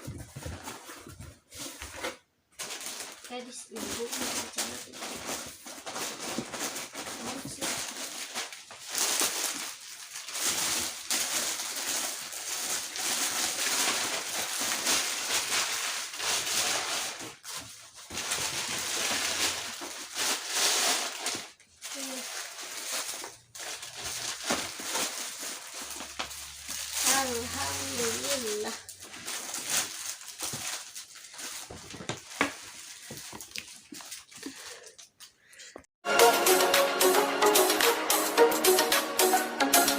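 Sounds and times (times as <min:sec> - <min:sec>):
packaging and cloth rustling: 0:00.0 - 0:35.2.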